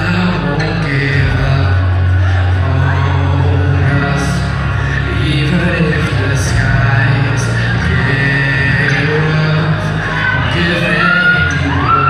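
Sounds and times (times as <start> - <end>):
heavy bass: 0.0 - 12.0
person singing over backing track: 0.0 - 12.0.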